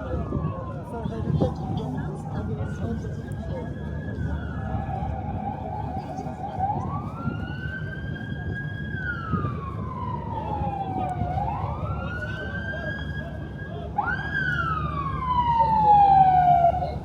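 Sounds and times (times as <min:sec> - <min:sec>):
emergency siren wailing: 0:00.0 - 0:17.0
low rumble of city noise: 0:00.0 - 0:17.0.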